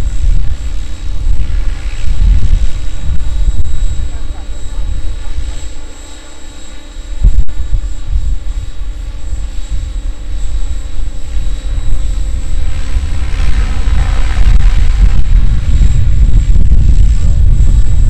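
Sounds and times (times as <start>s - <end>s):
model helicopter rotor and motor: 0.0s - 18.0s
wind rumble on microphone: 0.0s - 18.0s.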